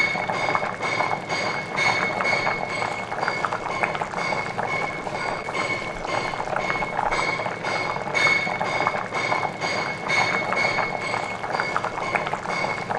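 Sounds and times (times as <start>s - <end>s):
curry bubbling: 0.0s - 12.9s.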